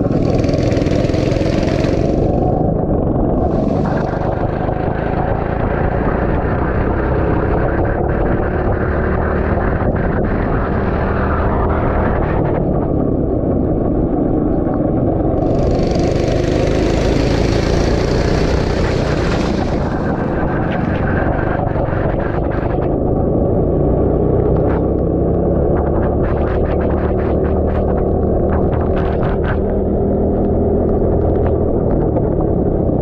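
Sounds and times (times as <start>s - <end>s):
go-kart engine running: 0.0s - 33.0s
wind rumble on microphone: 0.0s - 33.0s.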